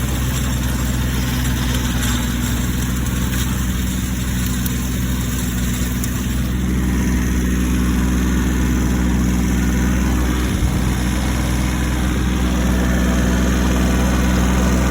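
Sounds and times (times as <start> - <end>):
rotary tiller turning: 0.0 - 14.9
tractor engine running: 0.0 - 14.9.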